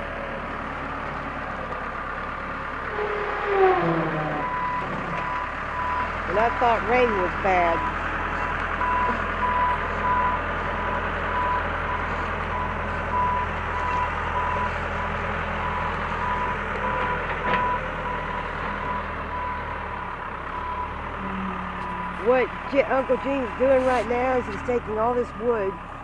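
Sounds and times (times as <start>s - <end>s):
engine hum: 0.0s - 26.0s
reversing alarm beeping: 2.9s - 25.8s.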